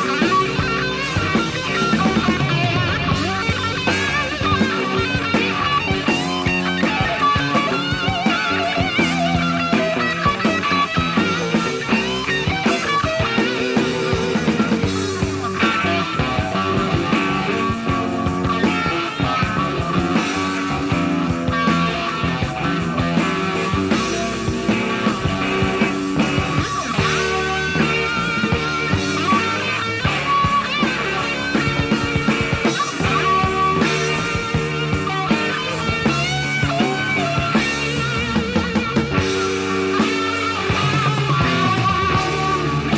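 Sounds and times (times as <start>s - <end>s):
electric guitar lines: 0.0s - 42.9s
hard rock band playing: 0.0s - 42.9s.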